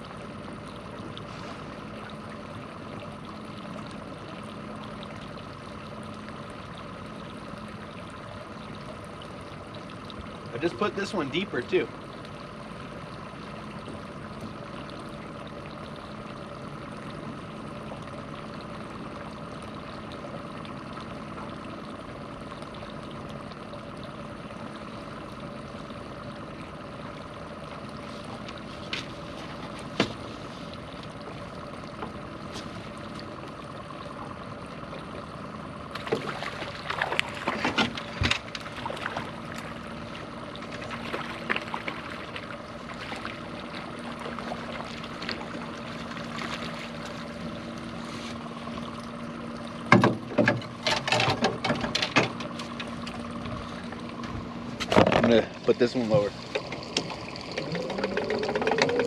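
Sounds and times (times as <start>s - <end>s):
outboard motor humming: 0.0s - 59.0s.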